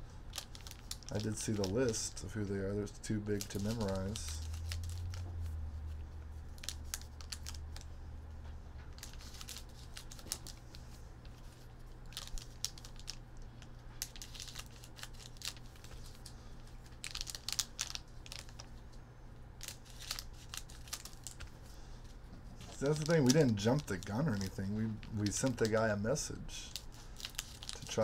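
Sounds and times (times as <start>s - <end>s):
steady low hum: 0.0s - 28.0s
plastic wrapper crinkling: 0.2s - 8.0s, 8.9s - 19.0s, 19.6s - 28.0s.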